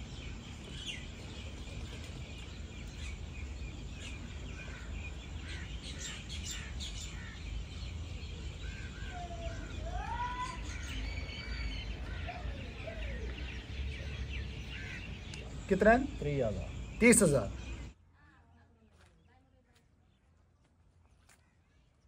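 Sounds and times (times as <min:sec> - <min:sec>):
rising bird calls: 0:00.0 - 0:18.0
low outdoor rumble: 0:00.0 - 0:18.8
small birds chirping: 0:00.0 - 0:22.0.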